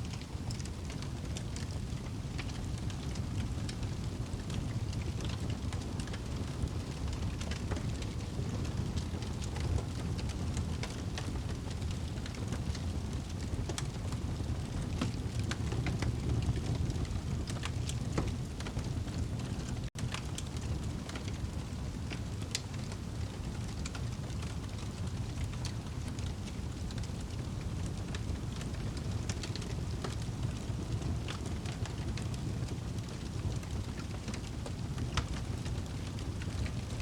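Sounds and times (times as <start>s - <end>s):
logs crackling and popping: 0.0s - 37.0s
low rumble of flames: 0.0s - 37.0s.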